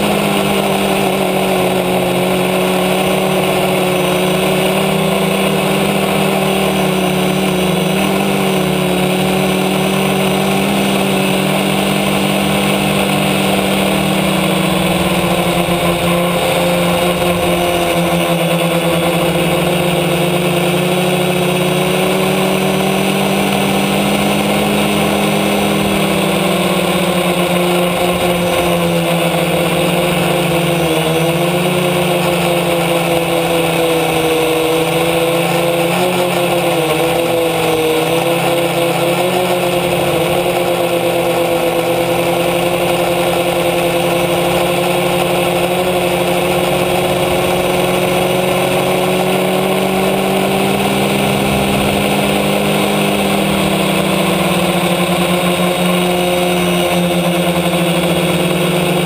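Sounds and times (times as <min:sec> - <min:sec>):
quadcopter motors droning: 0:00.0 - 0:59.0.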